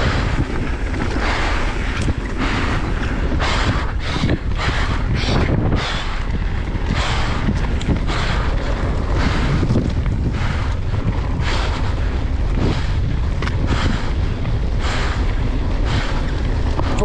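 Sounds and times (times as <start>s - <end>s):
tyre noise on dirt trail: 0.0s - 17.0s
wind buffeting microphone: 0.0s - 17.0s.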